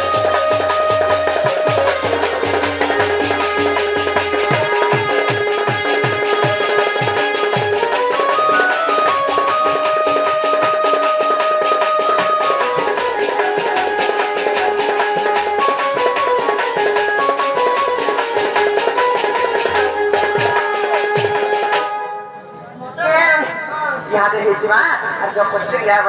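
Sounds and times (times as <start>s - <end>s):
fast steady drum beat: 0.0s - 21.8s
melody of held notes: 0.0s - 22.8s.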